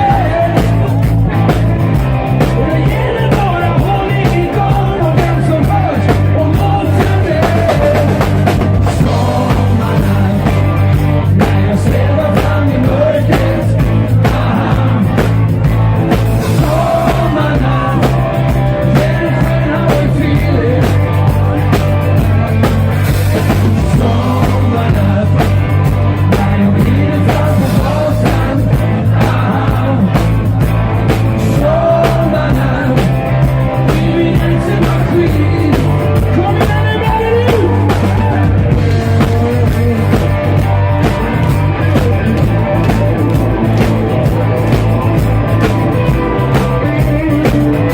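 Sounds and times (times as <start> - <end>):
drum kit beat: 0.0 - 47.9
live band playing upbeat song: 0.0 - 47.9.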